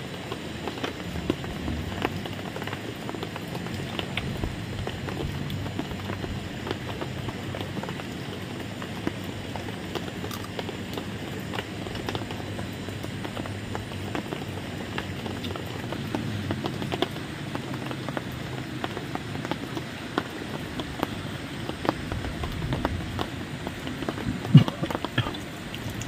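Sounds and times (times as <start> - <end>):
rain falling: 0.0 - 26.0
raindrops ticking: 0.0 - 26.0.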